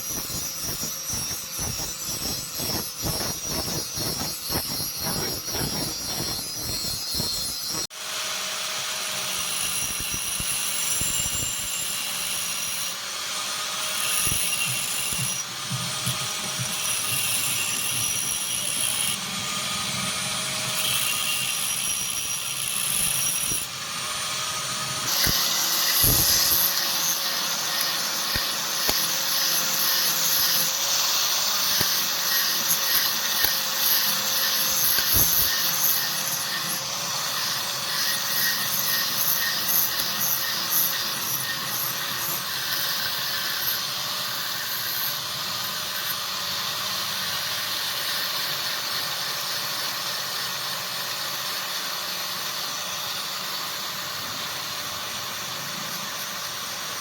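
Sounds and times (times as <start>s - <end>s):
grinder on steel: 0.0s - 57.0s.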